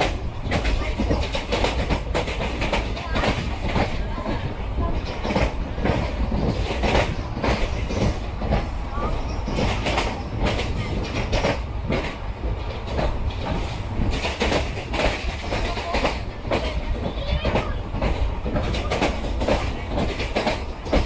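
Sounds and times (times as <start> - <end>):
train wheels clattering: 0.0 - 21.0.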